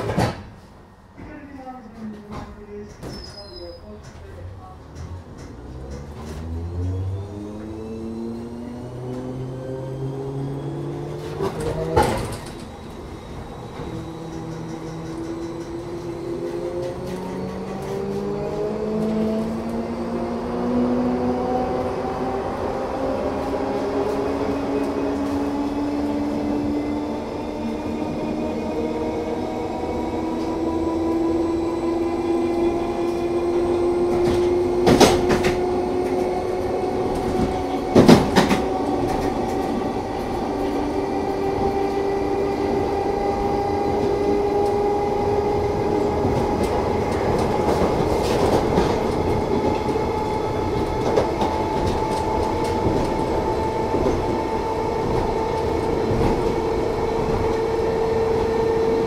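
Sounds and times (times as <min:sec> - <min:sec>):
train wheels running noise: 0:01.2 - 0:20.3, 0:23.2 - 0:59.0
train motor whine rising: 0:05.4 - 0:59.0.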